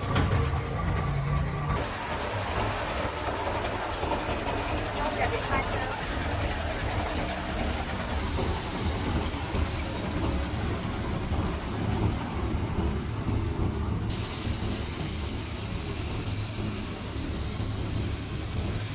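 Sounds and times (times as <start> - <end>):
truck engine running: 0.0 - 18.9
water spraying hiss: 1.8 - 12.7, 14.1 - 18.9.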